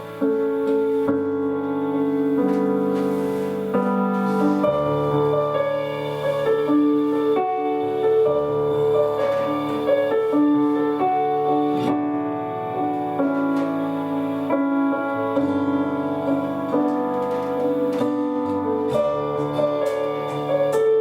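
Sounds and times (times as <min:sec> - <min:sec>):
instrumental piano music: 0:00.0 - 0:21.0.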